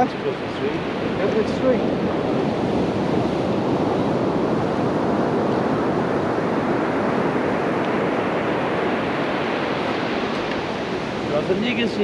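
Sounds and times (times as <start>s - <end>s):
sea surf breaking on beach: 0.0s - 12.0s
wind on microphone: 0.0s - 12.0s.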